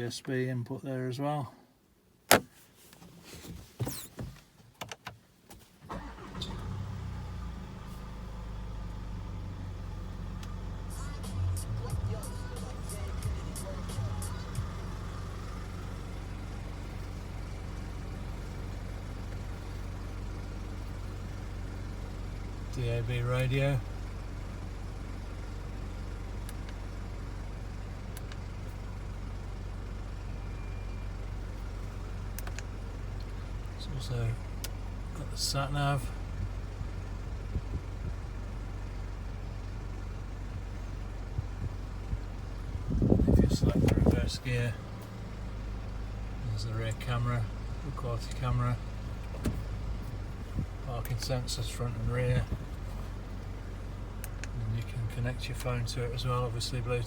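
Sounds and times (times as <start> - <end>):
diesel engine starting and idling: 5.8 - 57.0.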